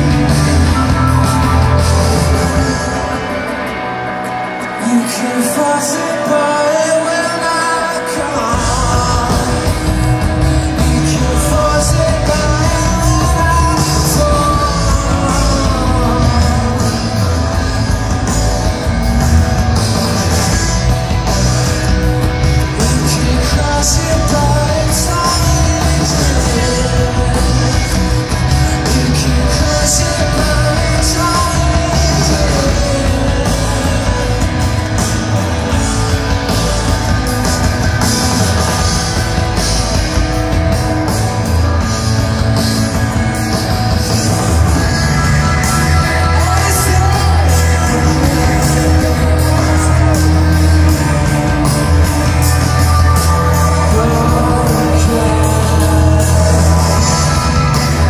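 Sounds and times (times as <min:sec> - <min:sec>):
live rock band: 0:00.0 - 0:58.0
man singing lead vocal: 0:04.6 - 0:19.2, 0:19.8 - 0:39.3, 0:43.7 - 0:58.0.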